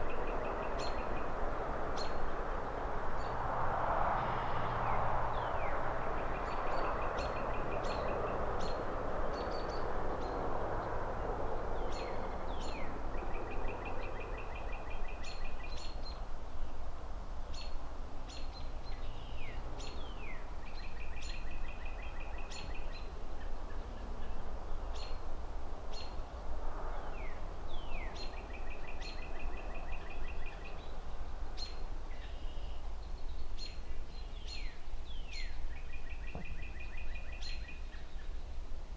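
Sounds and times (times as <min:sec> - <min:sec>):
distant city traffic rumble: 0:00.0 - 0:38.9
songbirds chirping: 0:00.0 - 0:38.9.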